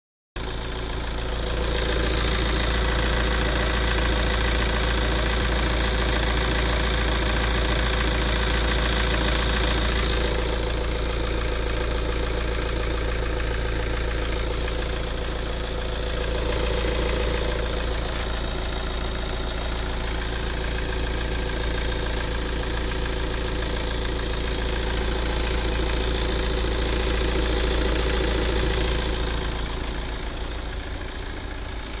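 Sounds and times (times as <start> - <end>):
diesel engine idling: 0.4 - 32.0.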